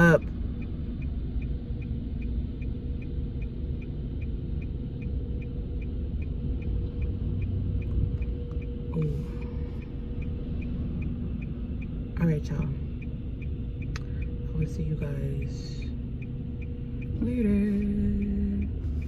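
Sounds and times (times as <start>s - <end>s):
car engine idling hum: 0.0s - 19.0s
turn signal clicking: 0.0s - 19.0s.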